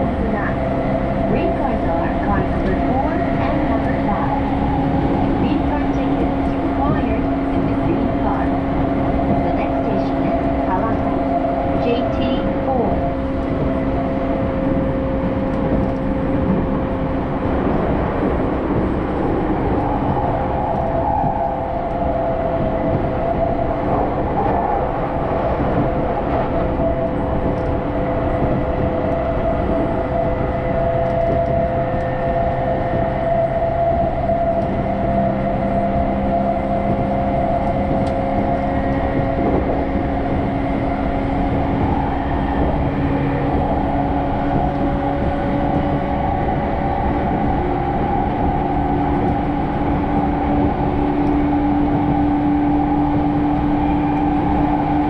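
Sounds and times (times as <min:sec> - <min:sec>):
steady humming tones: 0:00.0 - 0:55.0
train rumbling: 0:00.0 - 0:55.0.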